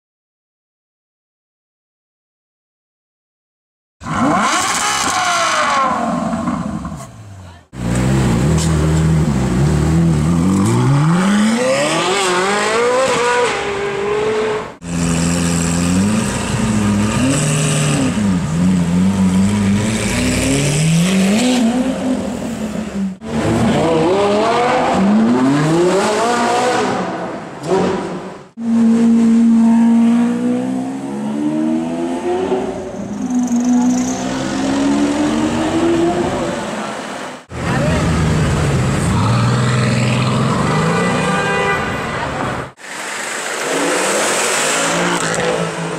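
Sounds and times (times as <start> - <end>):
car engines revving and accelerating: 4.0 - 41.6, 42.2 - 45.9.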